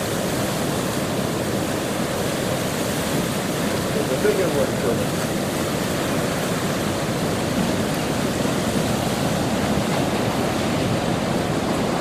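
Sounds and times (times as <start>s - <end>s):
surf and rushing water: 0.0s - 12.0s.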